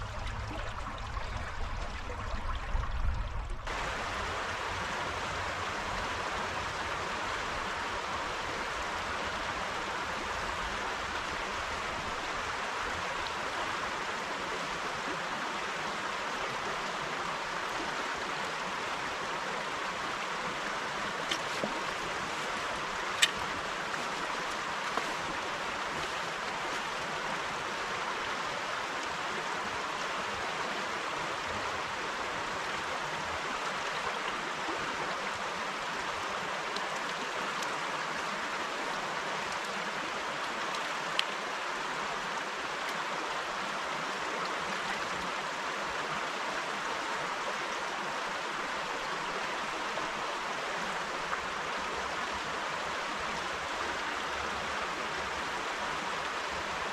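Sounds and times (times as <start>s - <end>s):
river water over stones: 0.0s - 56.9s.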